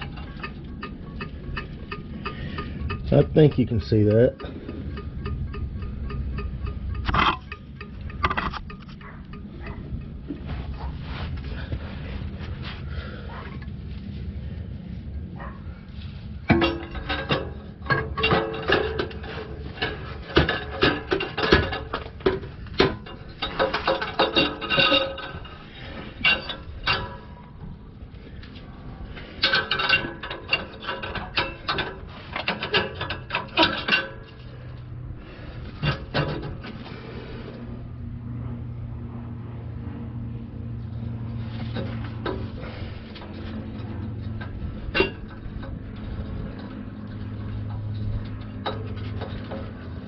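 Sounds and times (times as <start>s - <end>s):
metal clanks and scrapes: 0.0s - 14.2s, 15.4s - 37.8s, 40.7s - 50.0s
steady low hum: 0.0s - 50.0s.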